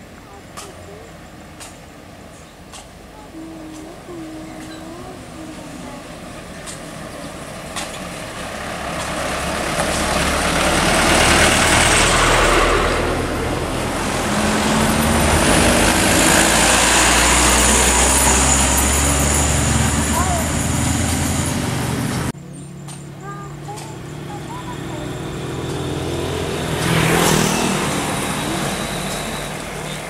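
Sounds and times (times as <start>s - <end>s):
second truck engine and hiss: 0.0s - 30.0s
truck driving past: 3.4s - 30.0s.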